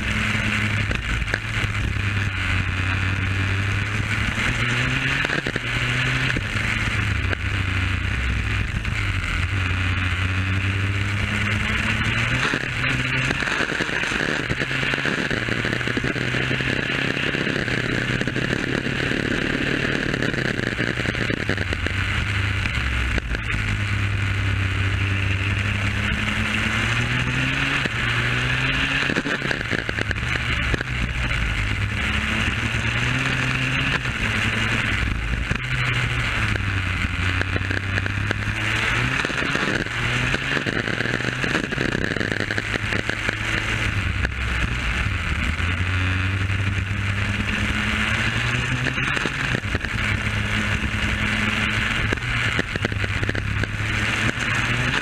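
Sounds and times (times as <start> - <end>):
two-stroke kart engine revving: 0.0 - 55.0.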